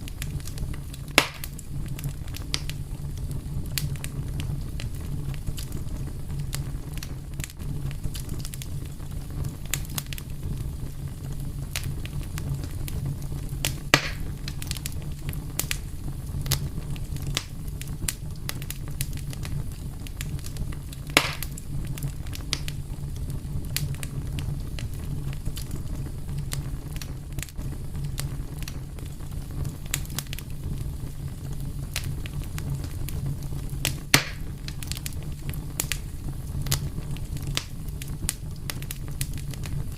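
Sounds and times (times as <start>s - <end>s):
burning wood popping: 0.0s - 39.9s
fire crackling: 0.0s - 39.9s.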